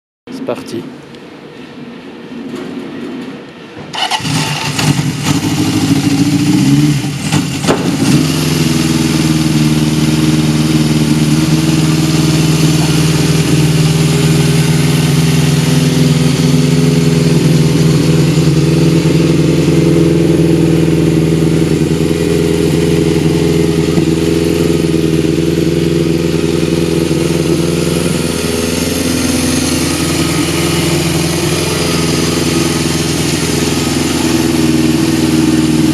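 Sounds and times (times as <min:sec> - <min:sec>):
motorcycle engine starting and idling: 0:03.9 - 0:35.9.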